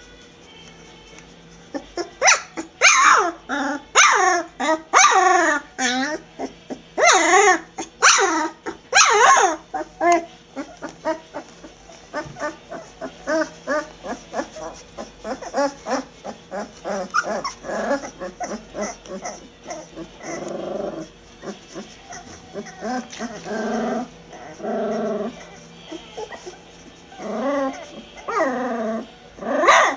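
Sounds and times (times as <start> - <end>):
puppies whining and yelping: 1.6 - 29.9
puppy growling: 1.6 - 29.9.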